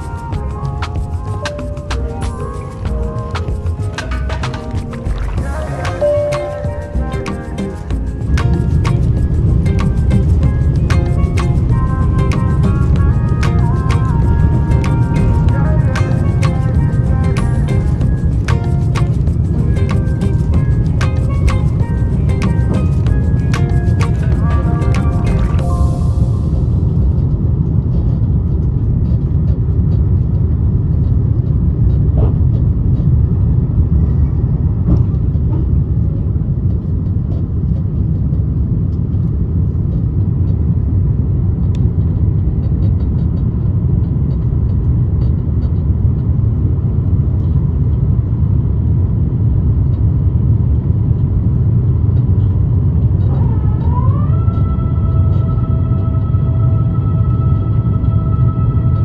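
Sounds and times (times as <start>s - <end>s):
jet airliner cabin rumble: 0.0s - 59.0s.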